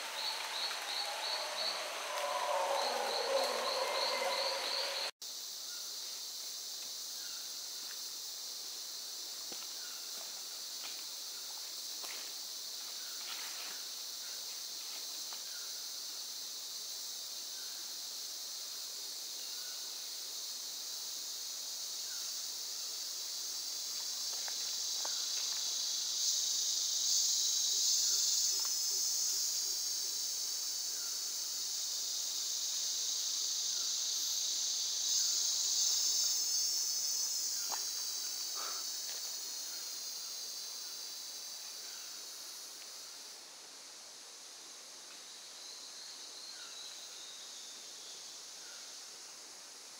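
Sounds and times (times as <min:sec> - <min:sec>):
insect chorus buzzing: 0:00.0 - 0:49.9.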